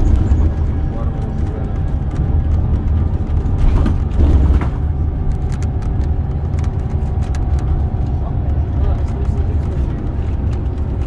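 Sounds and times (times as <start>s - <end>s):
bus engine and road rumble: 0.0s - 11.0s
faint clicks and rattles: 0.1s - 11.0s.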